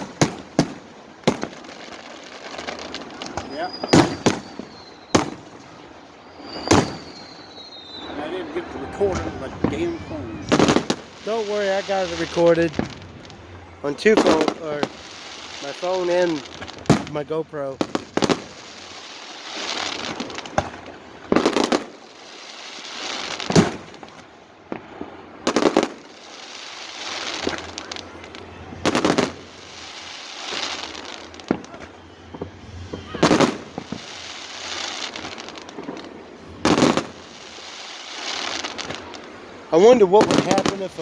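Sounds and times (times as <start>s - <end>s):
fireworks booming: 0.0s - 41.0s
low noisy background: 0.0s - 41.0s.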